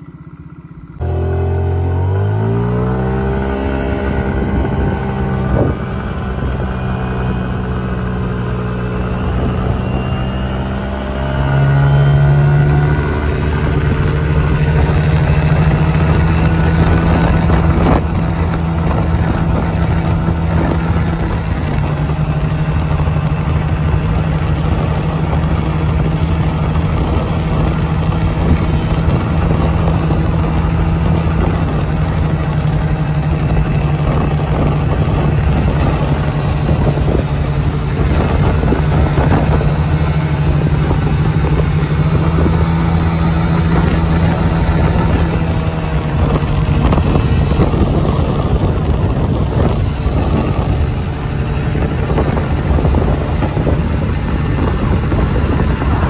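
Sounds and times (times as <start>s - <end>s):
scooter engine droning: 0.0s - 56.0s.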